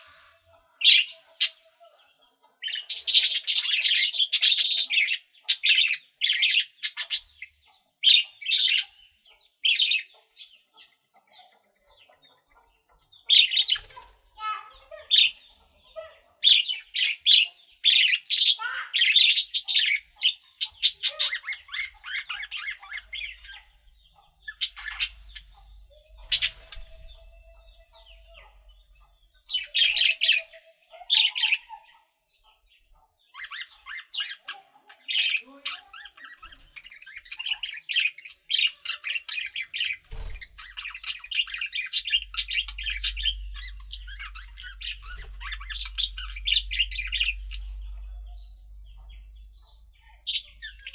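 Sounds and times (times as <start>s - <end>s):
budgerigars chirping: 0.0s - 50.9s.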